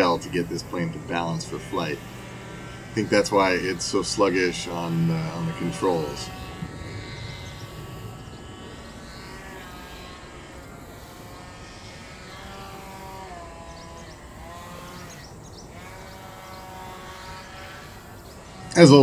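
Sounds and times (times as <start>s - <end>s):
model plane propeller whining: 0.0s - 19.0s.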